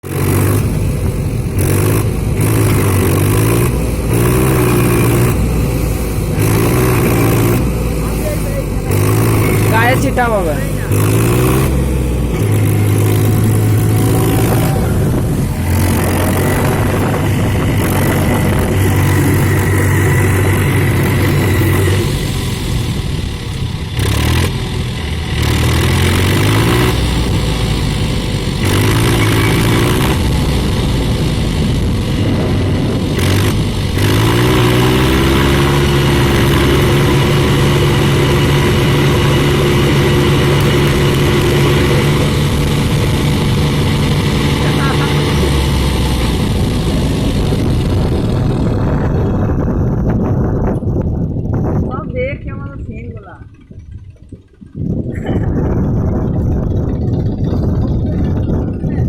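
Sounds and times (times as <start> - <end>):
tractor engine revving: 0.0 - 59.0.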